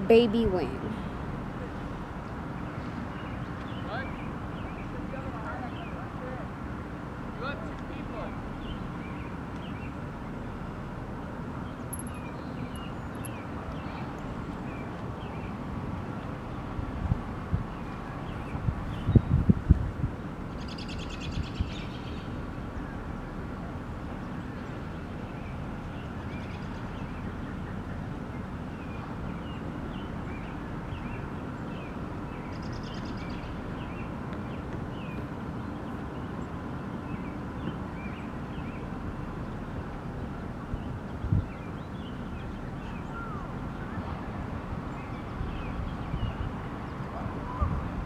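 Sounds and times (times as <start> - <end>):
outdoor background noise: 0.0 - 48.0.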